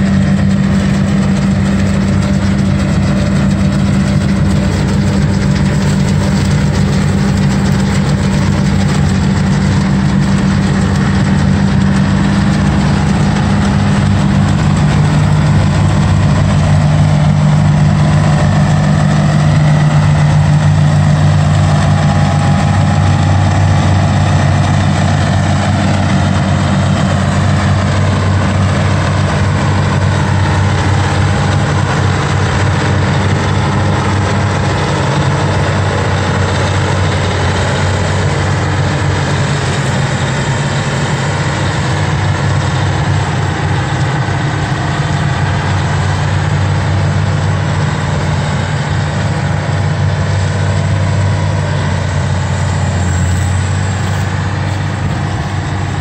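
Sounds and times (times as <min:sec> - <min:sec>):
diesel engine running: 0:00.0 - 0:56.0
harvester chopping crop: 0:00.0 - 0:56.0.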